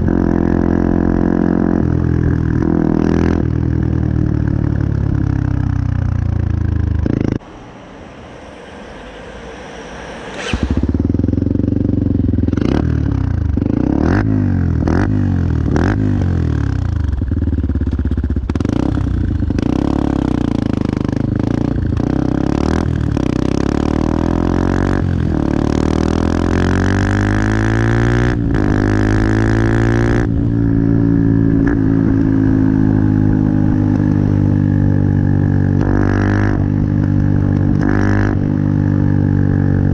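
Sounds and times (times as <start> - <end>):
motorcycle engine revving: 0.0 - 7.4, 8.9 - 39.9.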